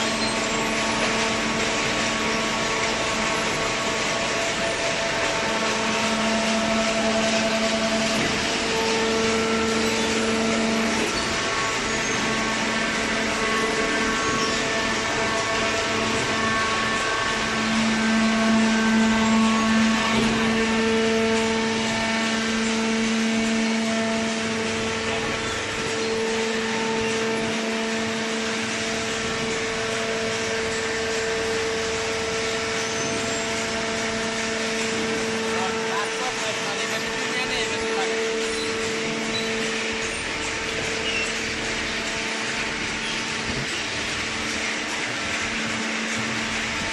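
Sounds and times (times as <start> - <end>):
baler machine droning: 0.0 - 46.9
baling press motor and pump hum: 0.0 - 46.9.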